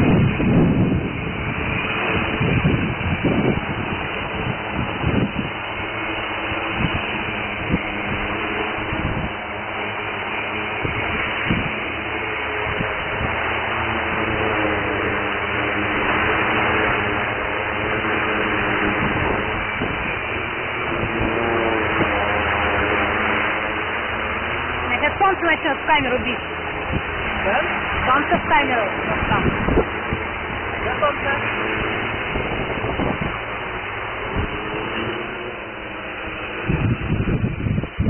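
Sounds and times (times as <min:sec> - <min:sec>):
wind thumps on microphone: 0:00.0 - 0:09.4, 0:10.8 - 0:38.0
drone motors buzzing: 0:00.0 - 0:38.0.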